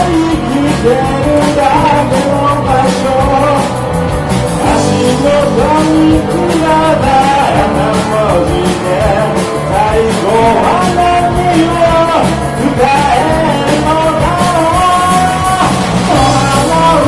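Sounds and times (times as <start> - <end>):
bass: 0.0 - 17.0
bending lead guitar melody: 0.0 - 17.0
drums keeping a steady beat: 0.0 - 17.0
electric guitars: 0.0 - 17.0.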